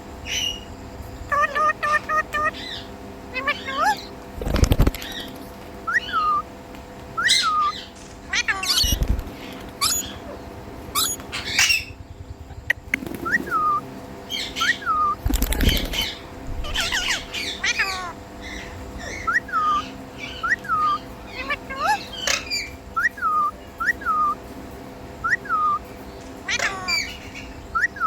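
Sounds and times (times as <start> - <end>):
parrot chirping: 0.2 - 0.7, 1.3 - 4.2, 5.9 - 6.5, 7.2 - 24.4, 25.2 - 25.8, 26.4 - 28.0.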